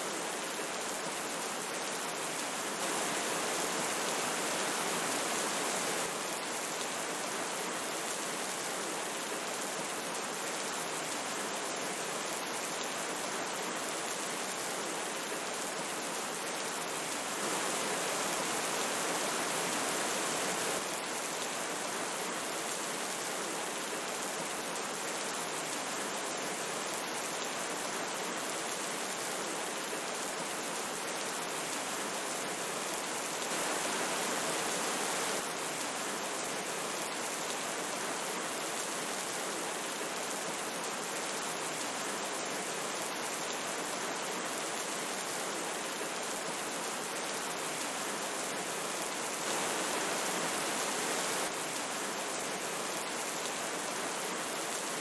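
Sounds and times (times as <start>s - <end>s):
river flowing: 0.0s - 11.0s, 16.2s - 23.8s, 28.3s - 55.0s
rain falling: 0.0s - 55.0s.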